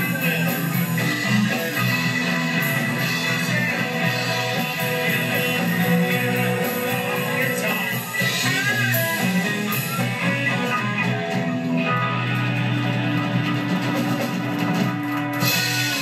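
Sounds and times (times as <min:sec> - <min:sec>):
electric guitars: 0:00.0 - 0:16.0
live band playing: 0:00.0 - 0:16.0.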